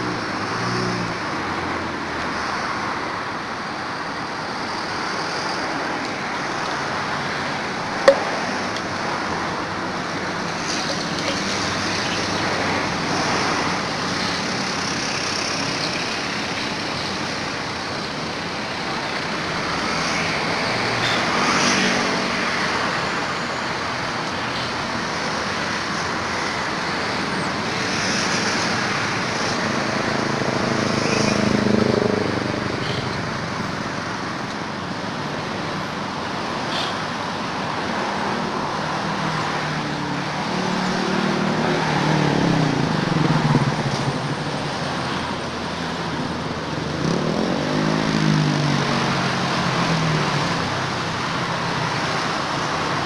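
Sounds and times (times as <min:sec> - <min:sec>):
road traffic noise: 0:00.0 - 0:53.0.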